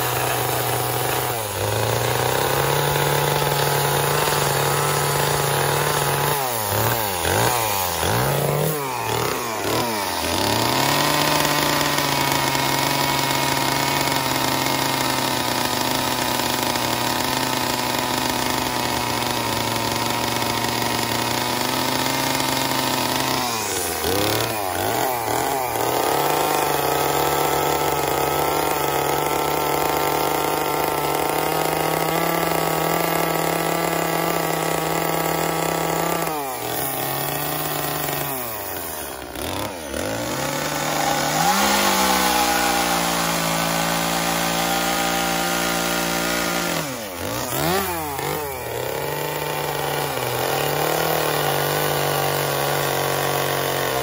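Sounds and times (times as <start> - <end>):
chainsaw carving wood: 0.0 - 54.0.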